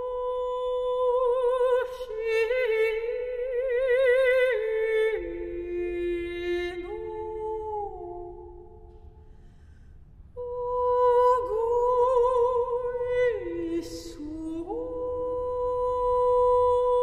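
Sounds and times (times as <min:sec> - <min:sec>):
woman singing with vibrato: 0:00.0 - 0:08.8, 0:10.4 - 0:17.0.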